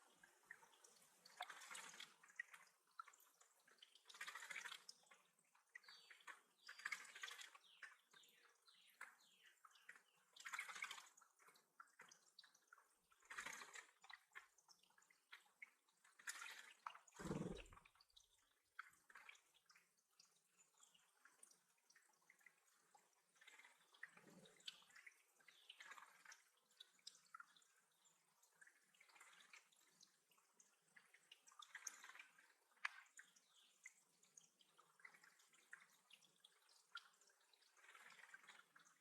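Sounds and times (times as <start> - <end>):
water dripping: 0.0 - 39.0.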